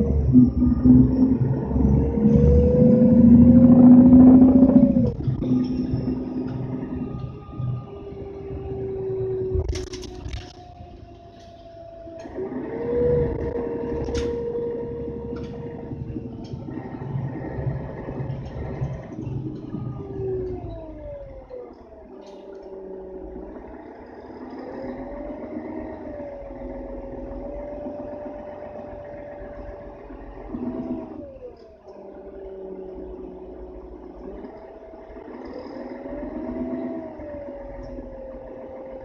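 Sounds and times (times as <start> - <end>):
bus diesel engine rumble: 0.0 - 39.0
gearbox whine: 0.0 - 39.0.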